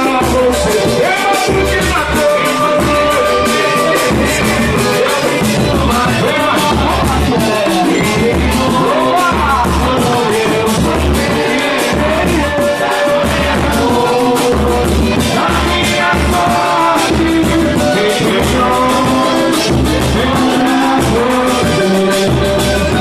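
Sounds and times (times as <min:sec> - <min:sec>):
busy percussion beat: 0:00.0 - 0:23.0
live band playing: 0:00.0 - 0:23.0
person singing: 0:00.0 - 0:23.0
pulsing bass: 0:00.0 - 0:23.0.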